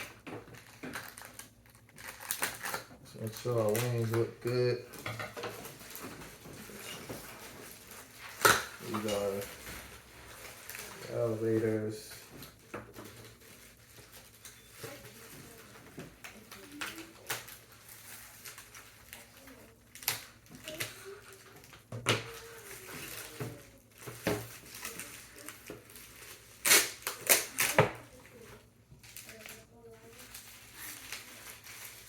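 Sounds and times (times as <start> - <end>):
packing material rustling: 0.0 - 32.0.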